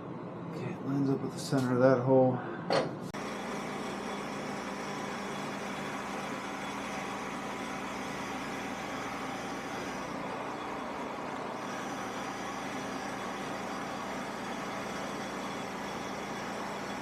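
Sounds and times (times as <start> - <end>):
motor humming and hissing: 3.2 - 17.0.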